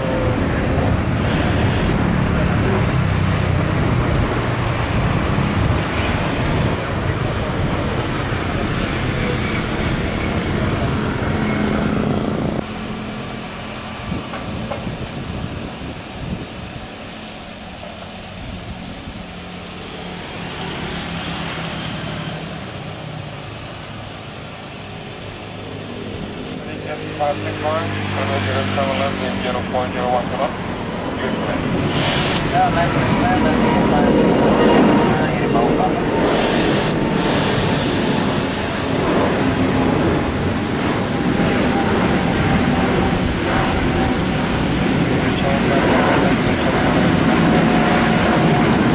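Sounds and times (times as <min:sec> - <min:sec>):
jet engine rushing noise: 0:00.0 - 0:48.9.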